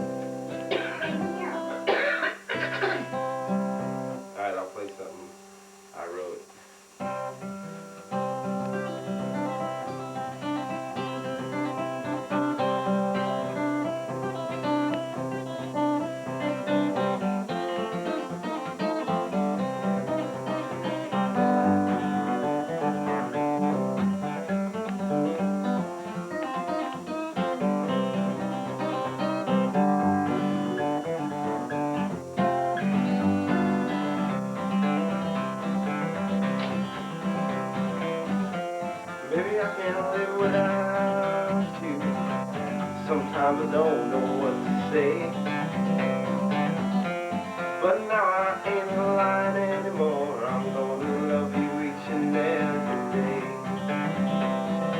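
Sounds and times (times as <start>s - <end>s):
acoustic guitar: 0.0s - 54.9s.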